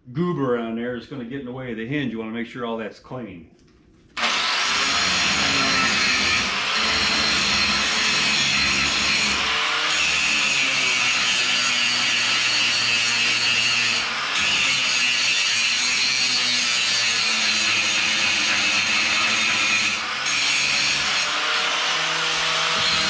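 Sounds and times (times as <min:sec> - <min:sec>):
angle grinder grinding steel: 0:04.2 - 0:23.0.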